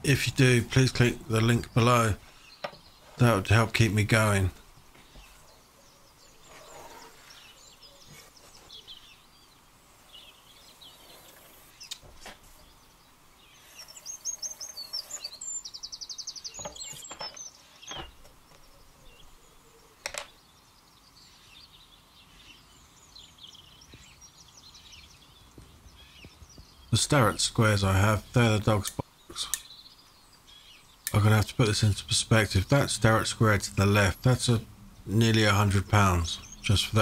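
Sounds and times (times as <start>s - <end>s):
birds singing faintly: 0.0s - 37.0s
trilled bird song: 0.0s - 37.0s.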